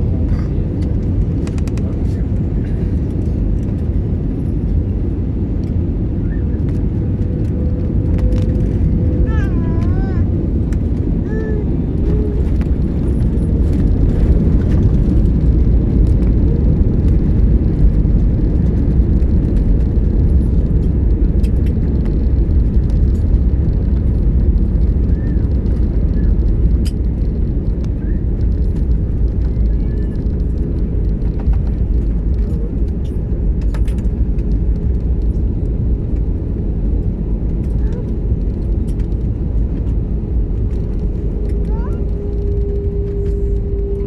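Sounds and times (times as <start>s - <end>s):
airliner engines rumbling: 0.0s - 44.0s.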